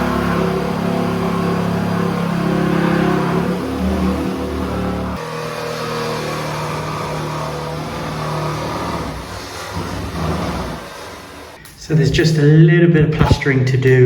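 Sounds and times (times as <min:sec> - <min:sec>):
electric saw cutting wood: 0:00.0 - 0:11.6.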